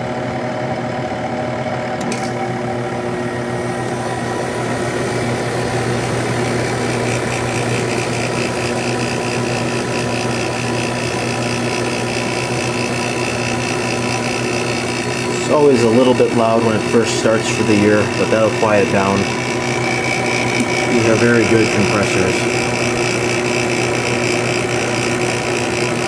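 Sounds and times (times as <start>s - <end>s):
air conditioner fan running: 0.0s - 26.0s
compressor hum: 0.0s - 26.0s
high whine: 2.1s - 10.8s, 12.8s - 26.0s.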